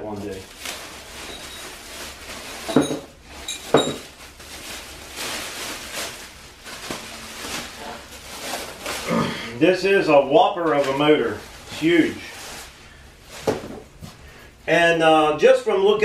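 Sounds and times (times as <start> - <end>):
plastic bag rustling and crinkling: 0.0 - 14.6.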